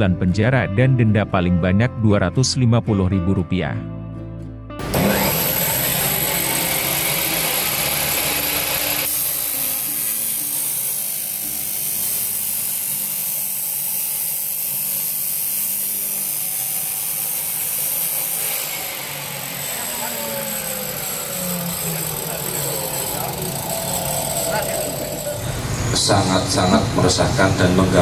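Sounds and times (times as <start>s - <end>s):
cut-off saw grinding metal: 4.8s - 28.0s.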